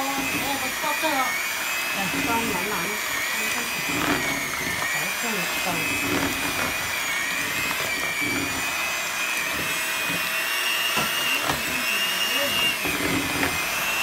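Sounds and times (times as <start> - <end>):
electric hand mixer whining: 0.0 - 14.0.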